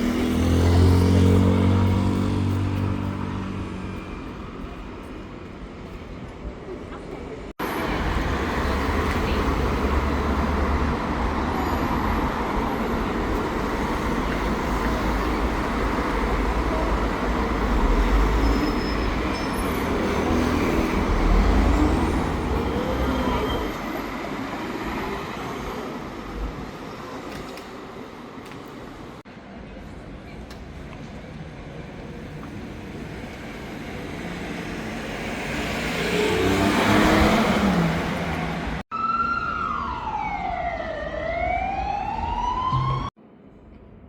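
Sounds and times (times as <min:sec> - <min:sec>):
motor traffic rumble: 0:00.0 - 0:39.2.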